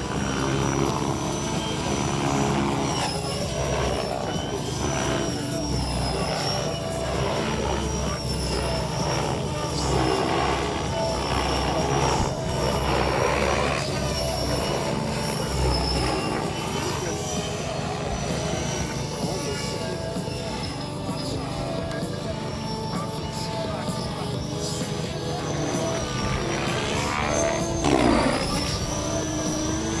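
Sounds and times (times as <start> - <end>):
model helicopter whine: 0.0 - 30.0.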